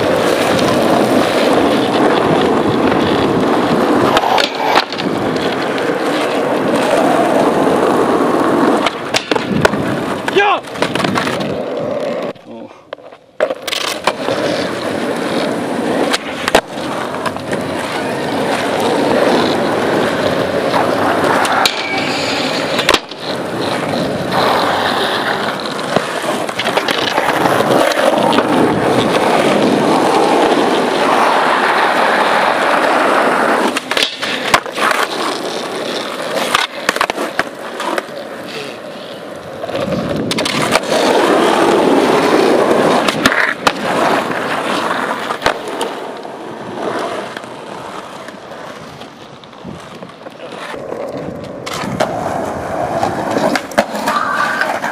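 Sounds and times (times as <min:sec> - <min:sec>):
skateboard clacks: 0:00.0 - 0:54.9
skateboard wheels rolling on asphalt: 0:00.0 - 0:54.9.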